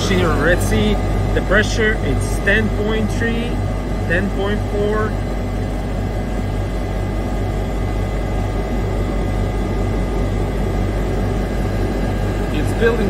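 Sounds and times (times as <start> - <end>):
air compressor hum: 0.0 - 13.0.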